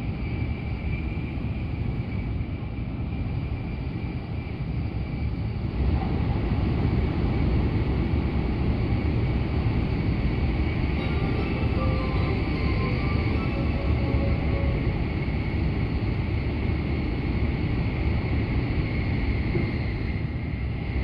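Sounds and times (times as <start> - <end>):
train cabin rumble and rush: 0.0 - 21.0.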